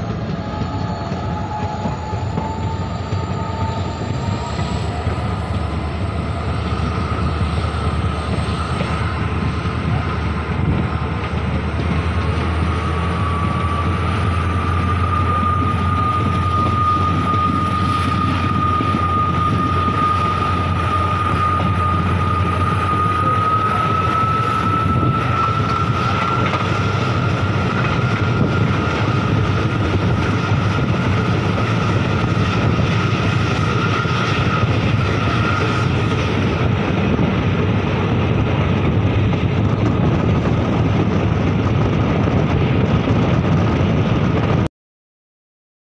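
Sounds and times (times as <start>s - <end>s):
passenger train rumble: 0.0s - 44.7s.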